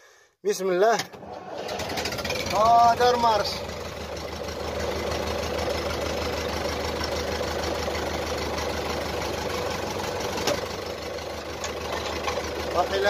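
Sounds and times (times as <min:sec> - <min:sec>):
tractor engine idling: 0:01.2 - 0:13.0.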